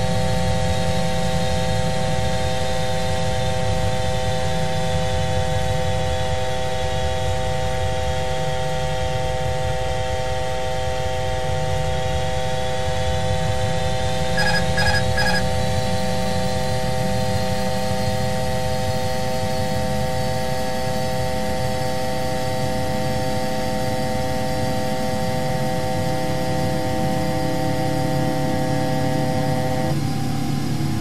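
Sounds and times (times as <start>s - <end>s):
jet engine and cockpit rumble: 0.0s - 31.0s.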